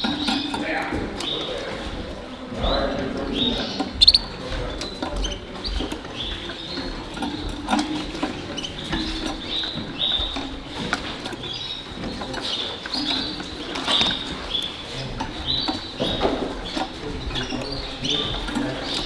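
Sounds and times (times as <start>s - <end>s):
canaries chirping: 0.0s - 19.0s
low murmur: 0.0s - 19.0s.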